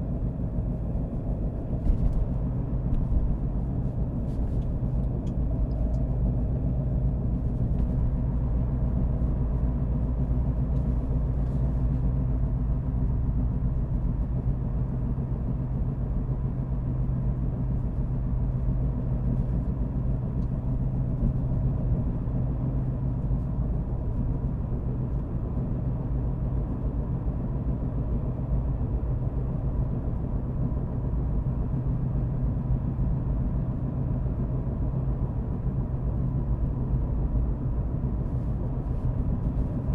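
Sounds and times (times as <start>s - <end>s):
car engine and road noise: 0.0s - 39.9s
steady low hum: 0.0s - 39.9s.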